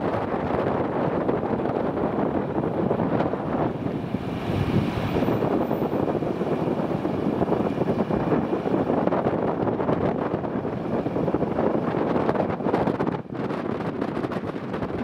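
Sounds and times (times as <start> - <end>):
jet engines rushing: 0.0 - 15.0
wind buffeting microphone: 0.0 - 15.0.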